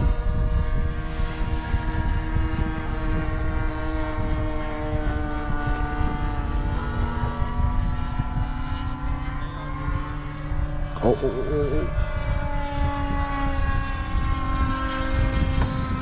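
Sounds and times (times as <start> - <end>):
model airplane engine drone: 0.0 - 16.0
wind rumble on microphone: 0.0 - 16.0.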